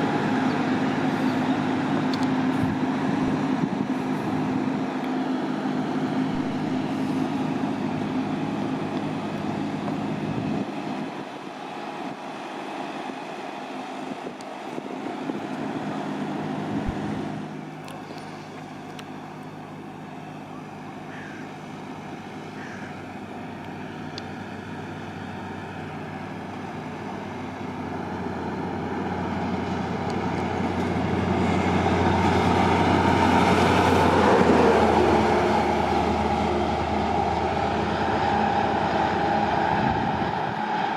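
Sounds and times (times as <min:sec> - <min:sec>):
engine-like hum: 0:00.0 - 0:40.9
train approaching: 0:00.0 - 0:40.9.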